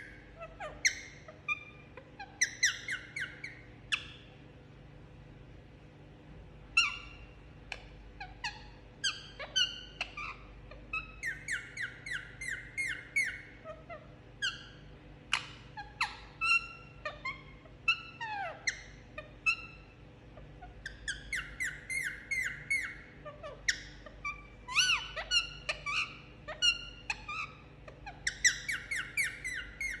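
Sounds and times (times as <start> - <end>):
parakeet chirps and squawks: 0.0 - 4.4, 6.6 - 30.0.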